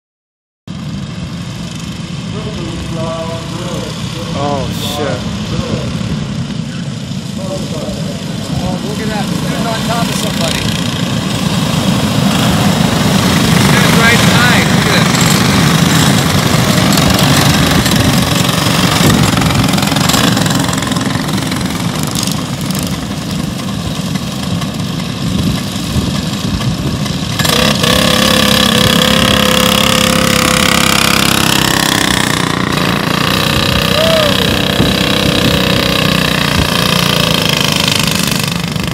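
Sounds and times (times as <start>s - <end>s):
kart engines racing: 0.7s - 38.9s
karts accelerating past: 0.7s - 38.9s.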